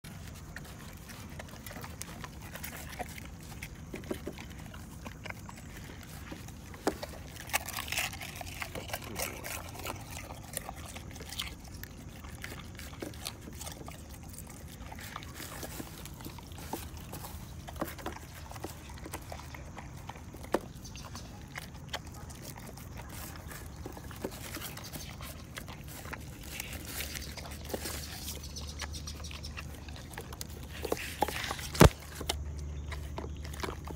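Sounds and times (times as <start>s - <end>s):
puppy chewing wet food: 0.0s - 33.9s.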